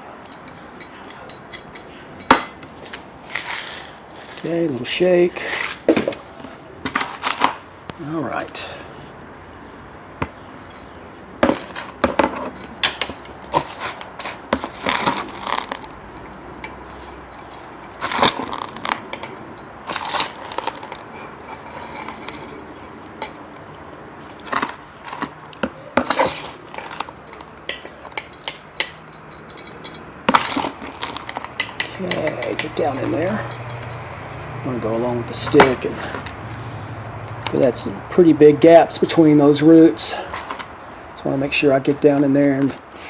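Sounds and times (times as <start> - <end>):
potting mix scraping and rattling: 0.1 - 9.1, 10.3 - 43.0.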